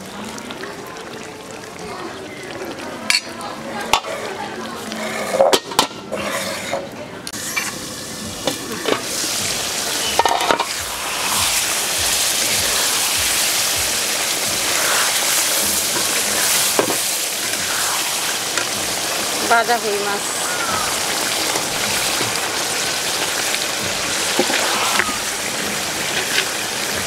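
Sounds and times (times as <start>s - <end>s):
curry sizzling in a pot: 0.0s - 27.0s.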